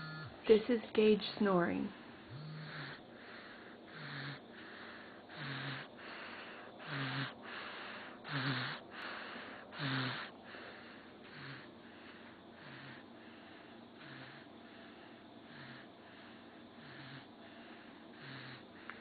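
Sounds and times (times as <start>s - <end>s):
person snoring: 2.3s - 19.0s.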